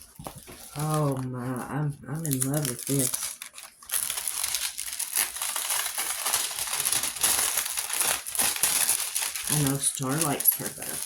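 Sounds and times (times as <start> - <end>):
plastic sheet crinkling: 0.0 - 11.0.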